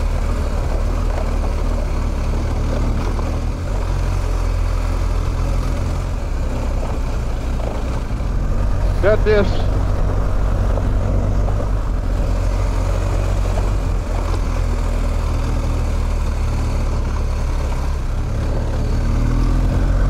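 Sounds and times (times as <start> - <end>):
motorcycle engine running: 0.0 - 20.0
tyres on gravel: 0.0 - 20.0.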